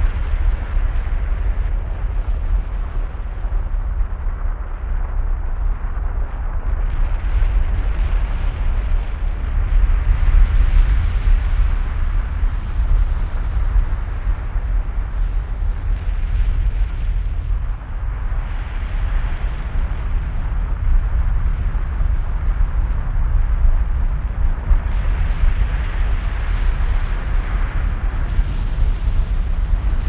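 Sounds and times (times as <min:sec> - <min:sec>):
lava eruption deep rumble: 0:00.0 - 0:30.0.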